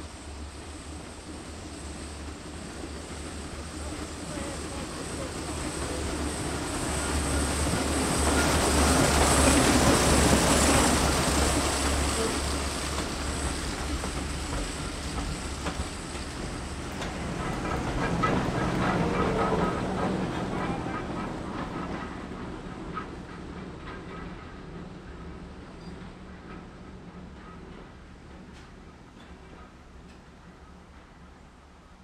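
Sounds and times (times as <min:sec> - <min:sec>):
train passing: 0:00.0 - 0:32.0.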